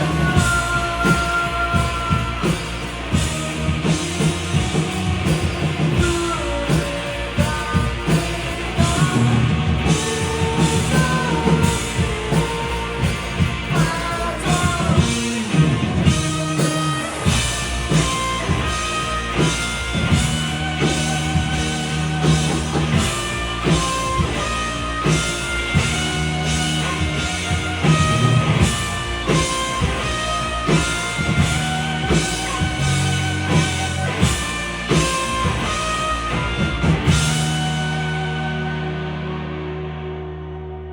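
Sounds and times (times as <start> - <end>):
drum kit beating: 0.0 - 39.4
sung vocals: 0.0 - 39.8
electric guitars: 0.0 - 40.9.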